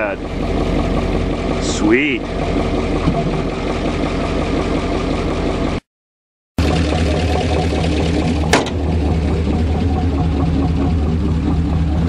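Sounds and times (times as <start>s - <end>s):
pickup engine idling: 0.0s - 5.8s, 6.6s - 12.0s.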